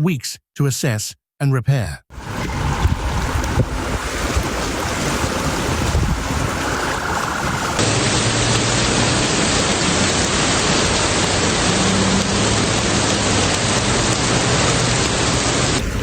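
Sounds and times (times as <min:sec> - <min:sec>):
rushing water: 0:02.1 - 0:16.0.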